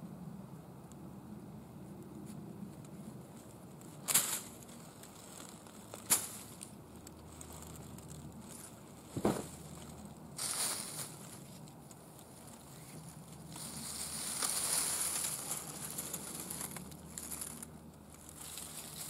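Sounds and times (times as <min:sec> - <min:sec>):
groundsheet rustling: 0:02.2 - 0:19.0
sharp crackles: 0:03.4 - 0:19.0.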